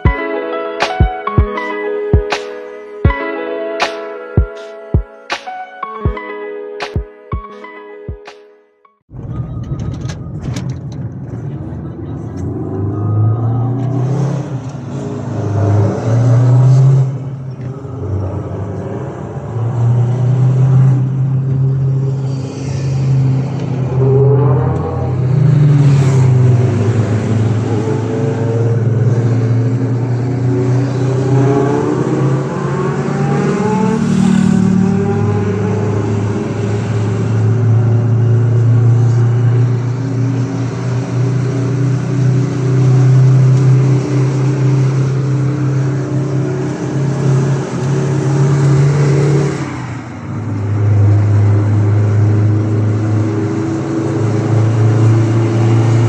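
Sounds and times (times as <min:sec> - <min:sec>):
bus engine drone: 0:09.1 - 0:56.0.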